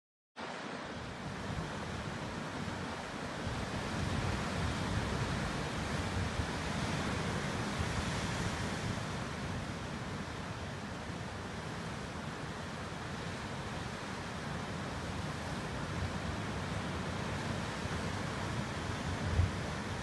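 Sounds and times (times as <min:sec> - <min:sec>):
surf washing over rocks: 0:00.4 - 0:20.0.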